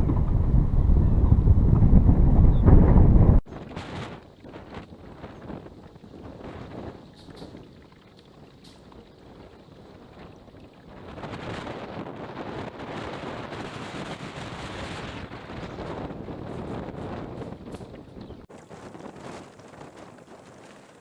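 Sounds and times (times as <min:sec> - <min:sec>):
choppy water: 0:00.0 - 0:21.0
strong wind buffeting microphone: 0:00.0 - 0:21.0.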